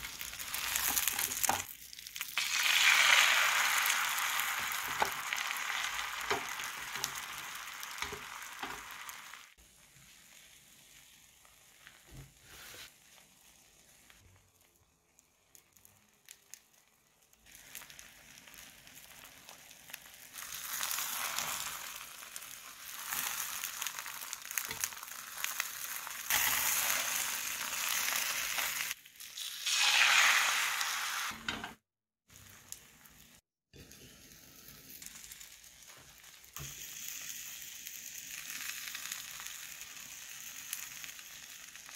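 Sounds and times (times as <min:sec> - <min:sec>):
egg sizzling in frying pan: 0:00.0 - 0:41.9.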